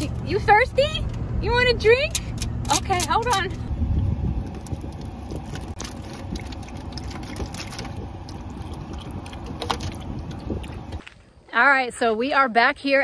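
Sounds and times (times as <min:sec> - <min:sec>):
car engine low rumble: 0:00.0 - 0:11.1.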